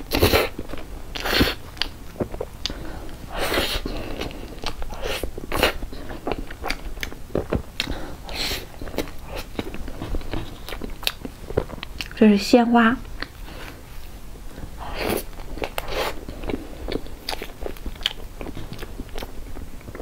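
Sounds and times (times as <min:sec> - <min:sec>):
wet chewing with mouth clicks: 0:00.1 - 0:12.2, 0:13.0 - 0:13.8, 0:14.5 - 0:20.0.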